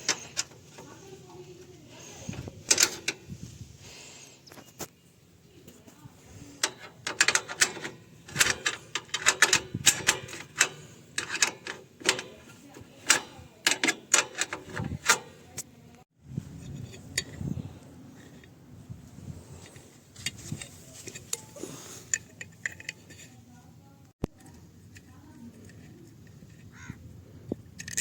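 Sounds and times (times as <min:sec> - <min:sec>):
hand tools and metal parts clinking: 0:00.0 - 0:04.9, 0:05.6 - 0:15.7, 0:16.5 - 0:18.6, 0:19.4 - 0:23.7, 0:24.3 - 0:26.8, 0:27.5 - 0:28.0.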